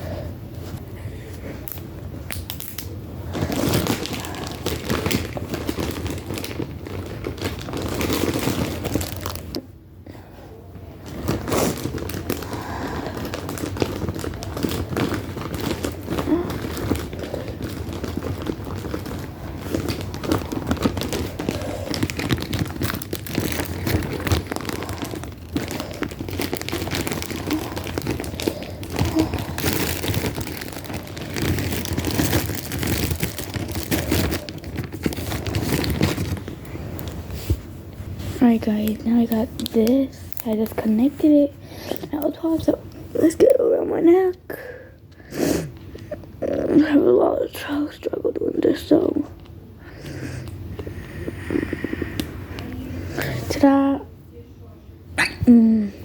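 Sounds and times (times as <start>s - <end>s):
crinkling and rustling objects: 0.0s - 44.8s, 45.6s - 54.0s.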